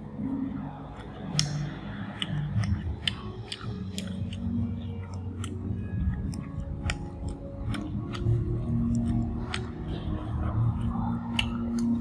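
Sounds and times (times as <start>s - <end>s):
person chewing food: 0.0s - 12.0s
wet mouth clicks and smacks: 0.9s - 12.0s.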